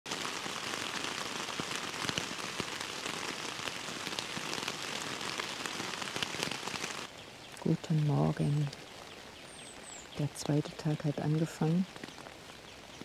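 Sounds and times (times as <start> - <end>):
rain falling on a tent: 0.1 - 13.0.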